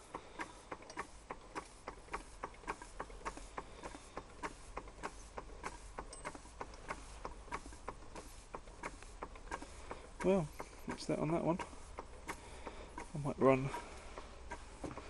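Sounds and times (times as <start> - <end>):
toy steam engine ticking: 0.0 - 14.8.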